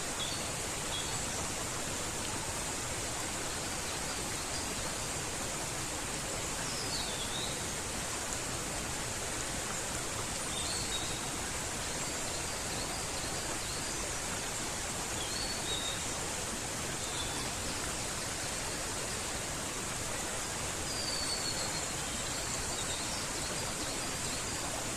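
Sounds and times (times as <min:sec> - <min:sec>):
stream rushing: 0:00.0 - 0:24.9.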